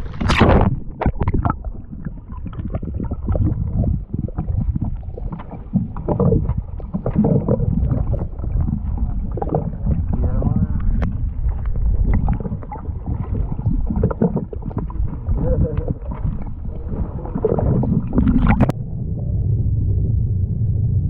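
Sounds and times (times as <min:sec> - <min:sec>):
dull underwater knocks: 0:00.0 - 0:18.8
water splash: 0:00.0 - 0:18.8
underwater rumbling water movement: 0:00.0 - 0:21.0.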